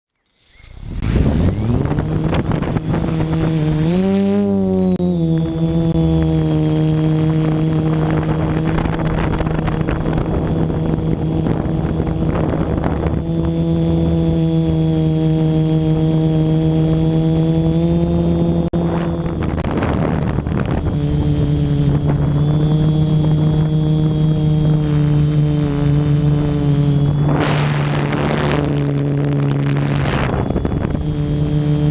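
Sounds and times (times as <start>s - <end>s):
quadcopter motors humming: 0.2s - 31.9s
wind on microphone: 0.7s - 31.9s.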